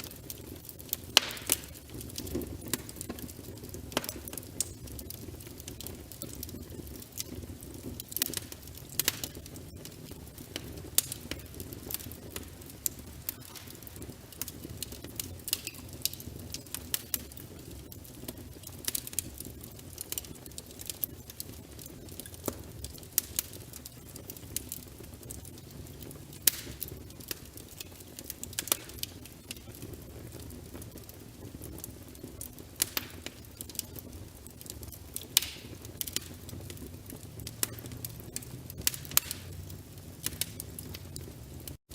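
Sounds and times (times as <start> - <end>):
fire crackling and popping: 0.0 - 41.9
low rumble of flames: 0.0 - 41.9.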